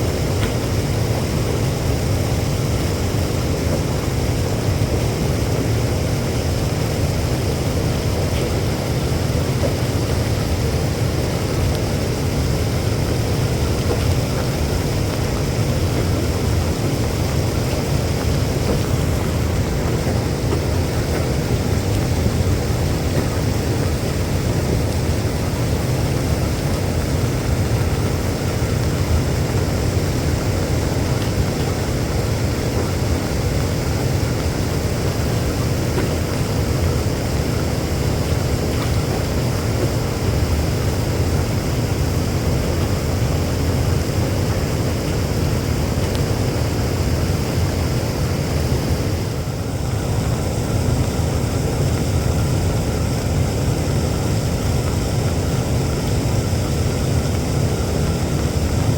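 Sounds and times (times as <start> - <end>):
heavy rain: 0.0 - 58.9
strong wind: 0.0 - 58.9.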